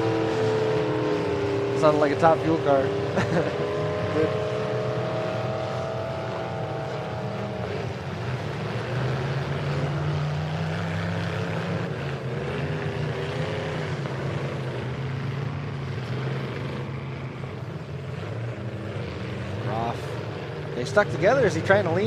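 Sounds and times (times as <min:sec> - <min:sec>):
engine revving: 0:00.0 - 0:22.0
truck engines running: 0:00.0 - 0:22.0.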